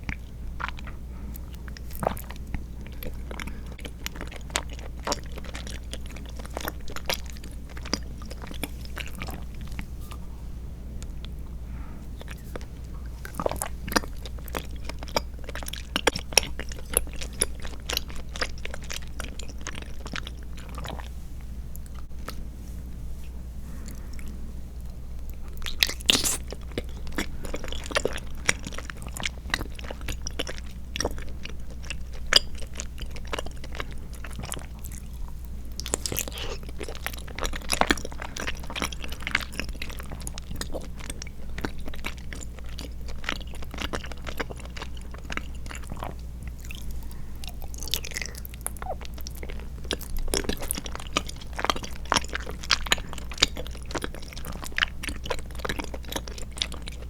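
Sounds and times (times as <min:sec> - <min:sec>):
wet chewing clicks and smacks: 0:00.0 - 0:09.8, 0:12.2 - 0:21.1, 0:24.9 - 0:57.0.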